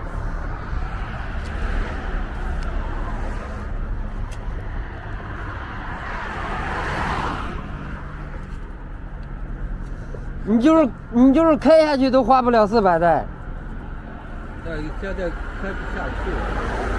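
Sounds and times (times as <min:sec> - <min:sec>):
road traffic: 0:00.0 - 0:16.9
vehicle passing: 0:00.0 - 0:16.9.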